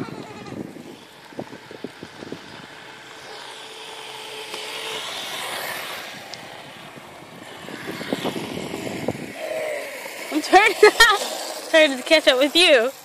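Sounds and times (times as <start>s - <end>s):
passing vehicle road noise: 0.0s - 13.0s.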